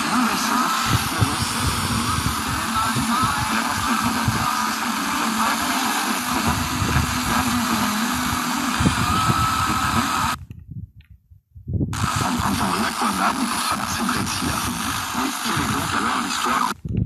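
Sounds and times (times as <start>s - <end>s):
radio hiss and crackle: 0.0s - 10.4s, 12.0s - 16.8s.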